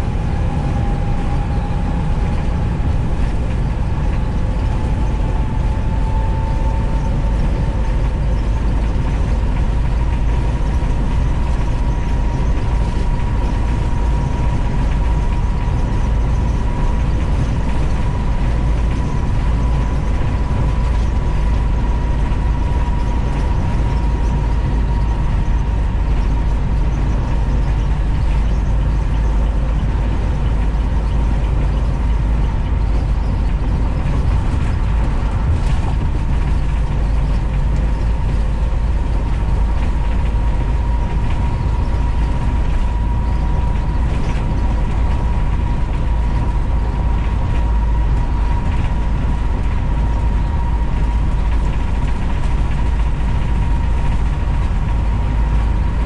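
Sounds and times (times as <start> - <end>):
bus engine and road rumble: 0.0 - 56.0
body rattling and clicking: 0.1 - 56.0.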